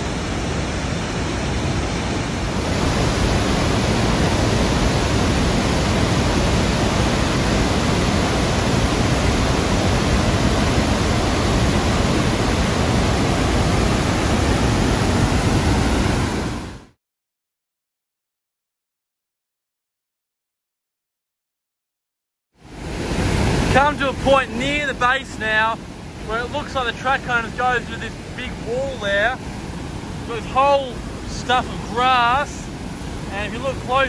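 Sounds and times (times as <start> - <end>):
waterfall rushing: 0.0 - 17.0, 22.6 - 34.0.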